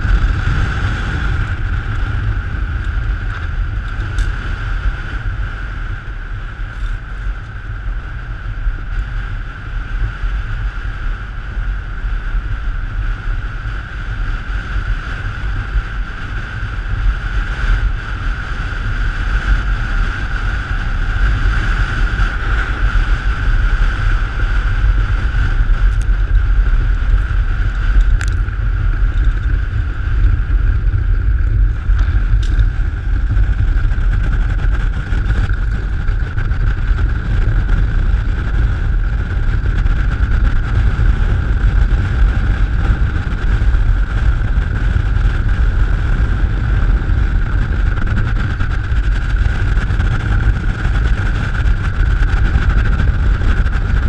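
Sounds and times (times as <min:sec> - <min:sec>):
high hum: 0:00.0 - 0:54.0
wind buffeting microphone: 0:00.0 - 0:54.0.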